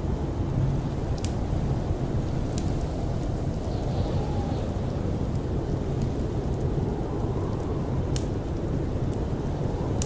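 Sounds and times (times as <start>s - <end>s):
snowstorm wind rumble: 0.0s - 10.0s
wood fire crackle: 0.0s - 10.0s.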